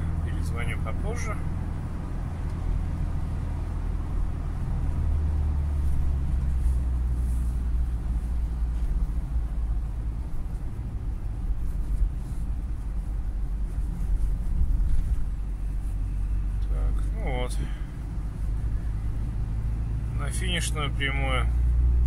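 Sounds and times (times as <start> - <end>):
car engine rumble: 0.0 - 22.0.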